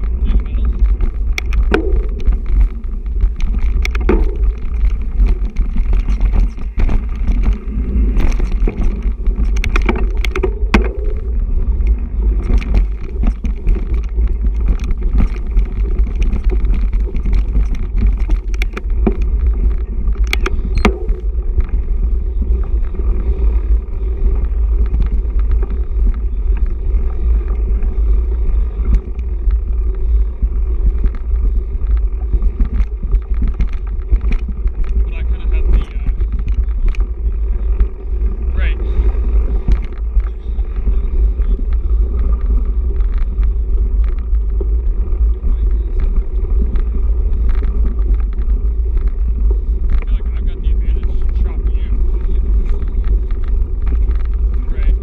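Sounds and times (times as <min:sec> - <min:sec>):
bike clicks and rattles: 0:00.0 - 0:55.0
tyre vibration rumble: 0:00.0 - 0:55.0
wind on microphone: 0:00.0 - 0:55.0.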